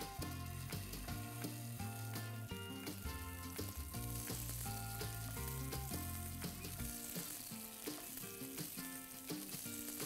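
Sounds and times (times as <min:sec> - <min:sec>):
background music: 0:00.0 - 0:10.0
fritters sizzling in frying pan: 0:00.0 - 0:10.0.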